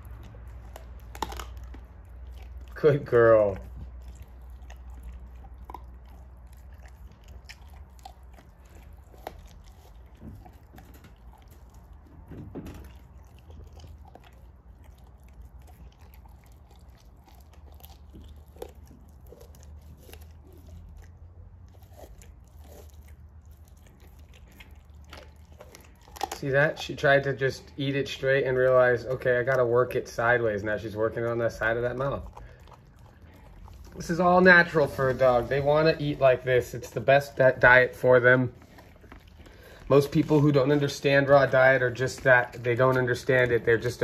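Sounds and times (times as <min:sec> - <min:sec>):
dog chewing meat on bone: 0:00.0 - 0:44.0.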